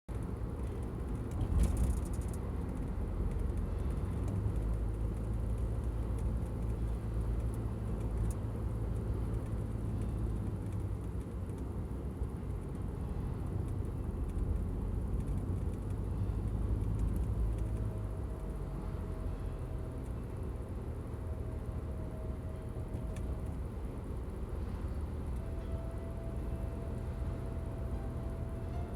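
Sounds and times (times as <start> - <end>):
car engine and road rumble: 0.1 - 28.9.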